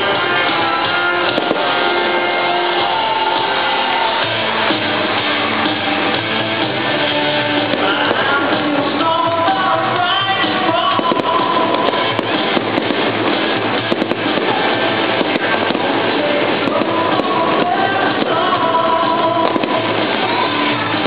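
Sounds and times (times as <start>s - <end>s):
fireworks bangs: 0.0s - 21.0s
music: 0.0s - 21.0s.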